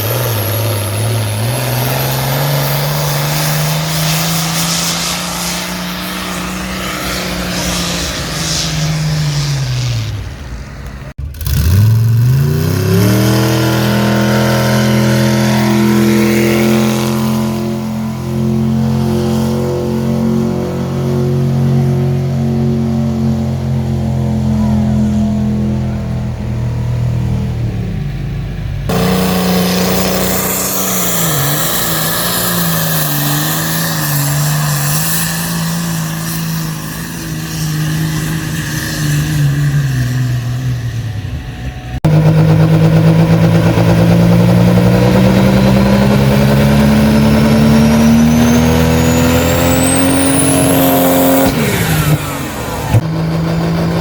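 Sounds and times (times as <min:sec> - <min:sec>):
truck engines revving under load: 0:00.0 - 0:54.0.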